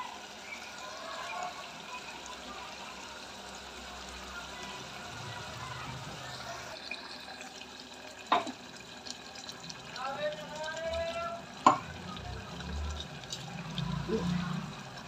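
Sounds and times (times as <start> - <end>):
curry sizzling in a pot: 0.0 - 15.0.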